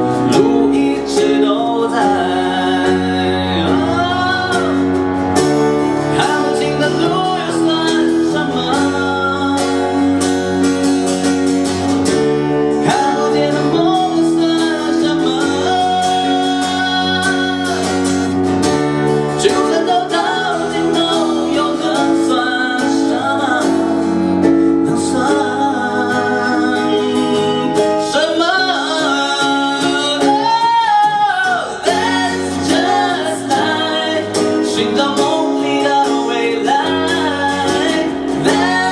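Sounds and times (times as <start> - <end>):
person singing: 0.0 - 38.9
pop song on guitar: 0.0 - 38.9.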